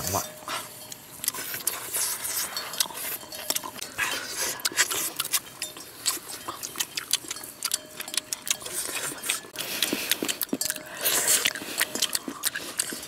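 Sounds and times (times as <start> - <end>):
wet chewing and lip smacks: 0.4 - 13.0.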